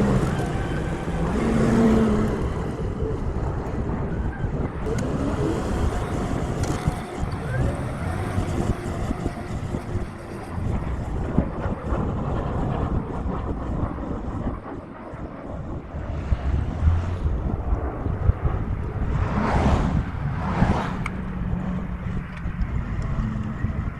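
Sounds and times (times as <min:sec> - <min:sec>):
tractor engine rumbling: 0:00.0 - 0:19.2.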